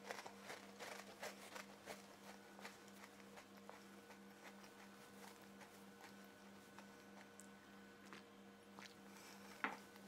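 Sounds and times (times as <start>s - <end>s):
cookie being chewed: 0.0s - 10.0s
faint steady room hum: 0.0s - 10.0s.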